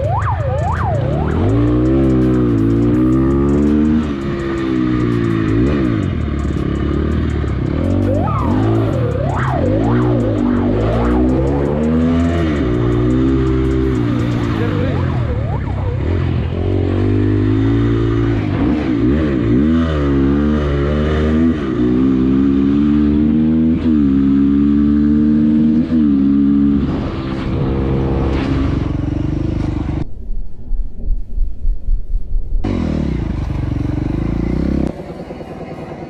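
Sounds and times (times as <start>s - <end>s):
motorcycle engine revving: 0.0s - 30.1s, 32.3s - 36.0s.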